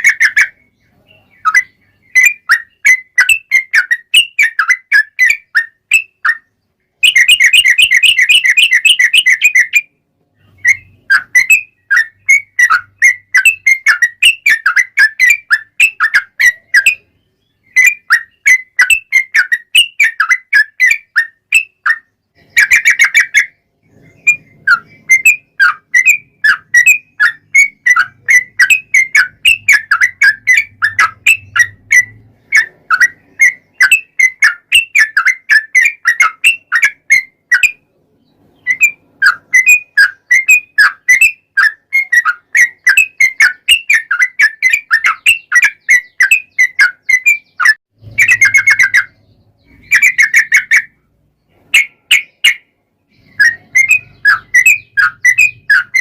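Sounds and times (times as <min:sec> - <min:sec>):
bulbul singing whistled chirps: 0:00.0 - 0:51.0, 0:51.8 - 0:56.0.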